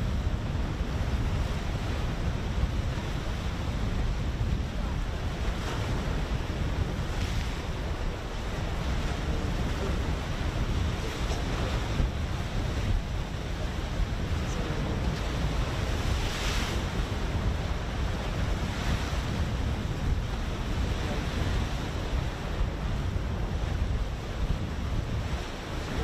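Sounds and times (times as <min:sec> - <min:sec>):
surf hiss: 0:00.0 - 0:26.0
waves washing: 0:00.0 - 0:26.0
wind buffeting microphone: 0:00.0 - 0:26.0.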